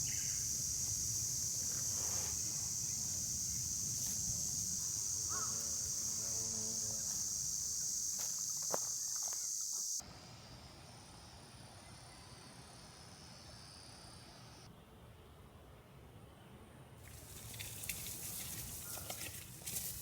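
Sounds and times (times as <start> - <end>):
insects chorus: 0.0 - 14.7, 17.1 - 20.0.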